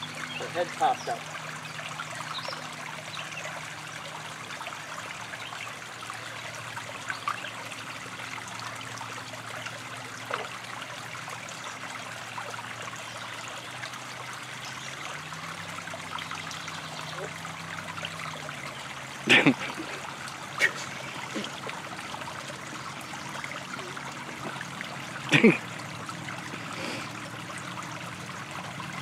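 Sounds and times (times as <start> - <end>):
creek trickling over stones: 0.0 - 29.0.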